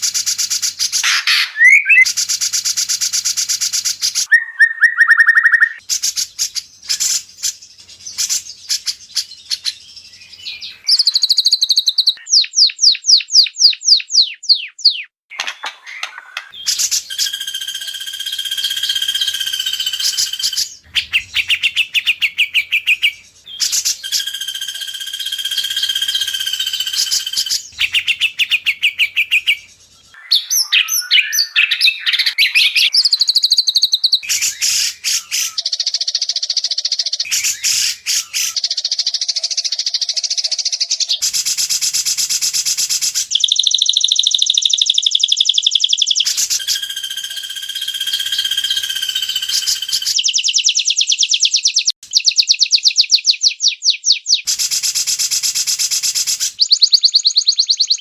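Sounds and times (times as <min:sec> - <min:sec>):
songbird whistles and trills: 0:00.0 - 0:58.0.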